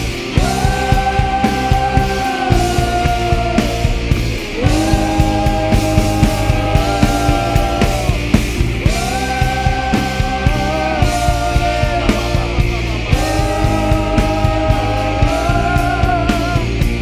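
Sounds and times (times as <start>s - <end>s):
drum beat: 0.0s - 17.0s
rock band playing: 0.0s - 17.0s.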